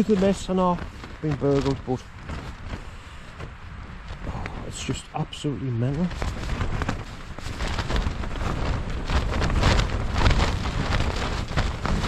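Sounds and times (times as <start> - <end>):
tent fabric flapping and cracking: 0.0 - 12.0
wind rumbling: 0.0 - 12.0.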